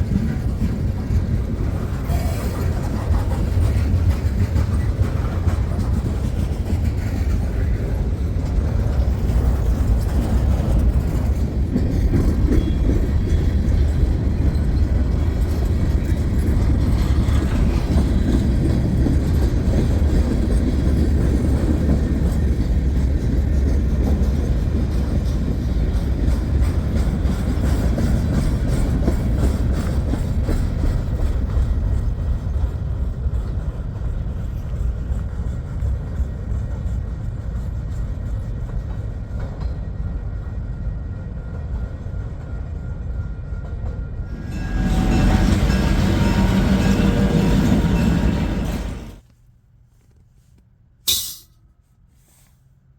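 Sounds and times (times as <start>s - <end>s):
freight train rolling on rails: 0.0s - 49.3s.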